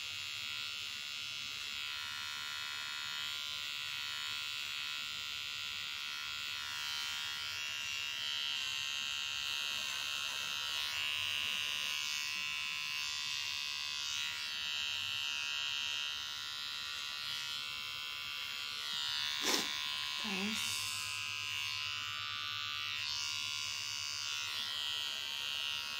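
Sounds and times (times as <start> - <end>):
electric pet trimmer buzzing: 0.0 - 25.9.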